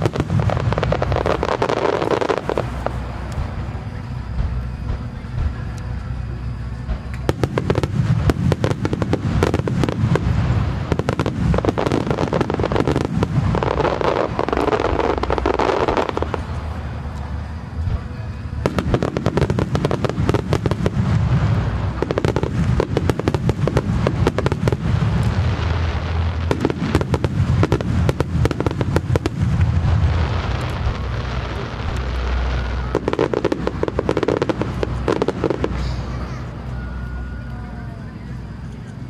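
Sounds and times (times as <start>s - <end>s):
fireworks bursting with crackling: 0.0s - 39.0s
low booming rumble: 0.0s - 39.0s.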